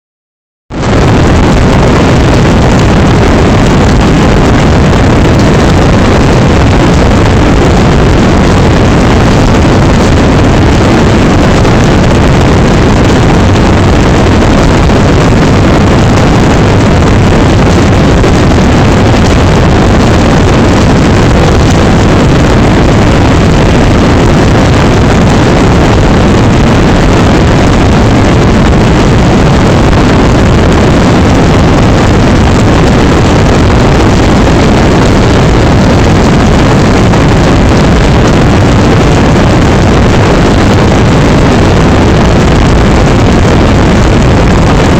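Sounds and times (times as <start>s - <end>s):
torrential rain pouring: 0.9s - 44.9s.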